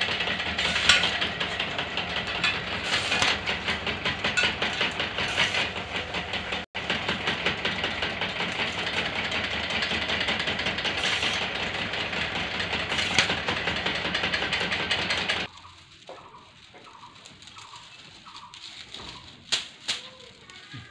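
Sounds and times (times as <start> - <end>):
machine motor rattling: 0.0 - 19.5.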